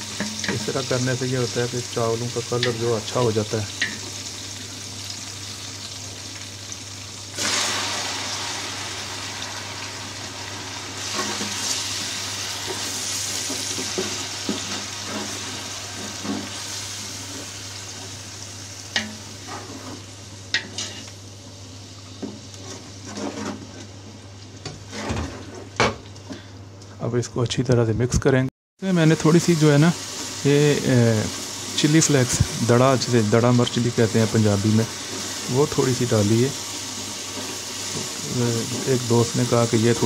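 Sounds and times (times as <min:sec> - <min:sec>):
onions sizzling in oil: 0:00.0 - 0:25.1, 0:28.8 - 0:40.0.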